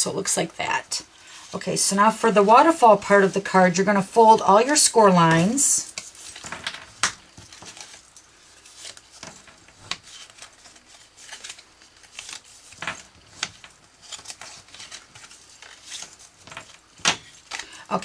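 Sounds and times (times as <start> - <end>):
paper rustling and scraping: 1.1 - 18.0.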